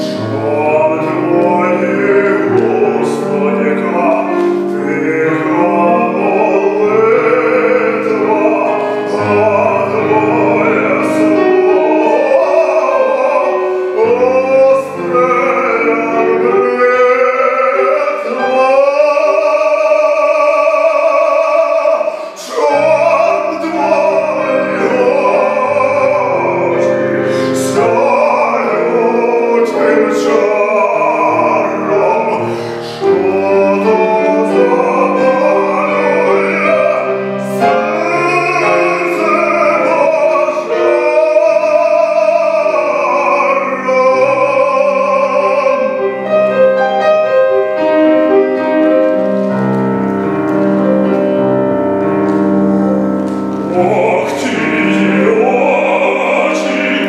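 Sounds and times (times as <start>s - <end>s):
man singing operatically: 0.0s - 49.5s, 52.3s - 57.0s
grand piano: 0.0s - 57.0s.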